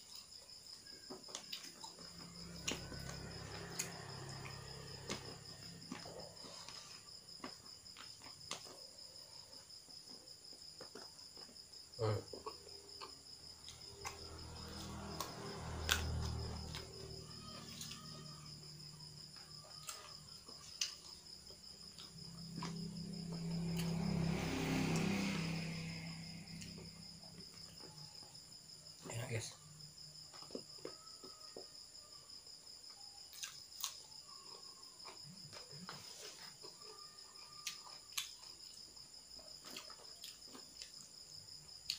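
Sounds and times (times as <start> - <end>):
crickets trilling: 0.0 - 41.9.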